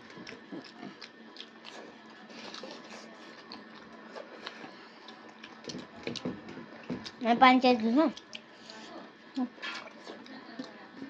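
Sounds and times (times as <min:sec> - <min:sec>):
chewing and smacking: 0:00.0 - 0:11.0.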